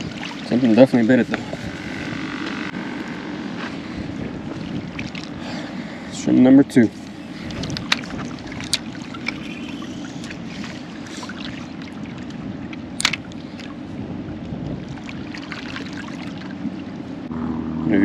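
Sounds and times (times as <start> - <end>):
wind buffeting microphone: 0.0 - 17.7.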